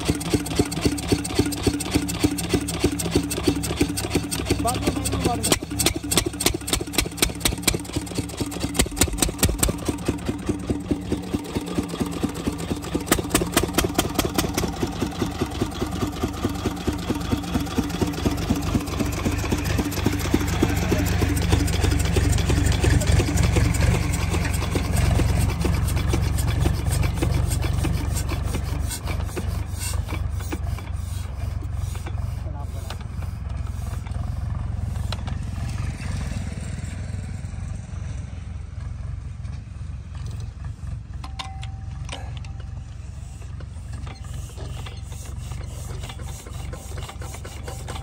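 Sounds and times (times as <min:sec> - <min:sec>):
single-cylinder diesel engine running: 0:00.0 - 0:48.0.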